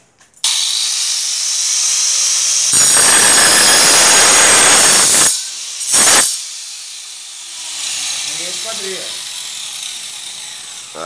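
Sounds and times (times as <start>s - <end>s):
angle grinder whining: 0.4s - 11.0s
grinder blade cutting iron bar: 0.4s - 11.0s.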